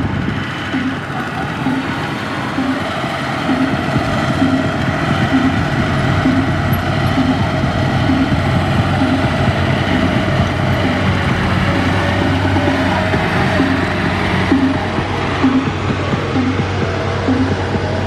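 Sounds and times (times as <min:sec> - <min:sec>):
diesel engines running: 0:00.0 - 0:18.0.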